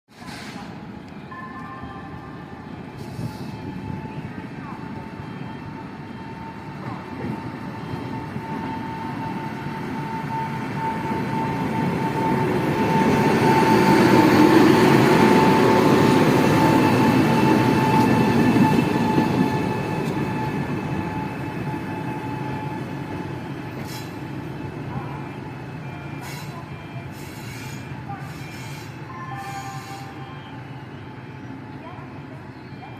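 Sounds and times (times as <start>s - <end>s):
train passing: 0.6s - 32.9s.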